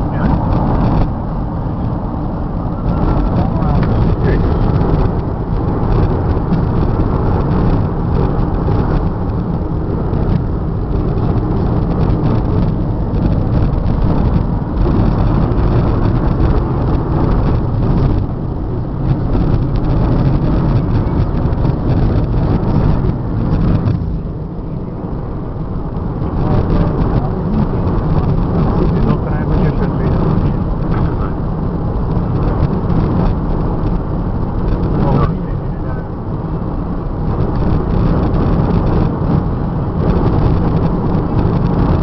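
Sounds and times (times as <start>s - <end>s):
car cabin road and engine noise: 0.0s - 42.0s.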